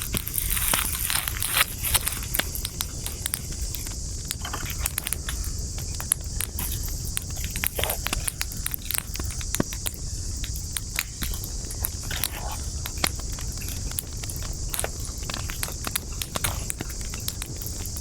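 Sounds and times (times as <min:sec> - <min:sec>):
campfire crackling and popping: 0:00.0 - 0:18.0
high-pitched hiss: 0:00.0 - 0:18.0
low rumble of flame: 0:00.0 - 0:18.0.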